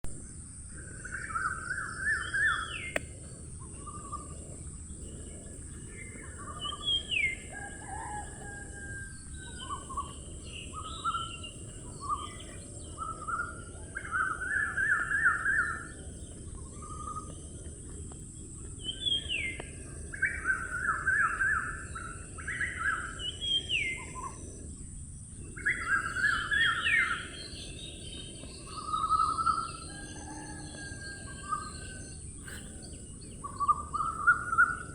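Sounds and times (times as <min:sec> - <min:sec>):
songbirds singing: 0:00.1 - 0:34.9.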